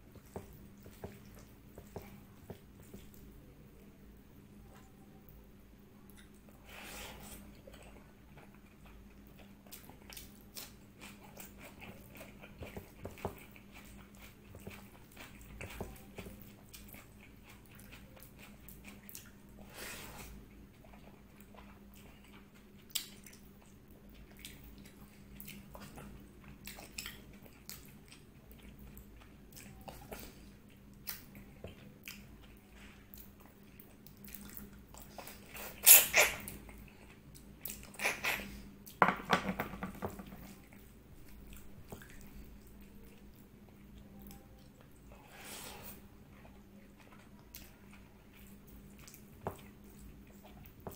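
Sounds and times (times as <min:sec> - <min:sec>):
person chewing food: 0:00.0 - 0:03.5, 0:06.1 - 0:39.0, 0:40.0 - 0:50.9
faint steady hum: 0:00.0 - 0:50.9.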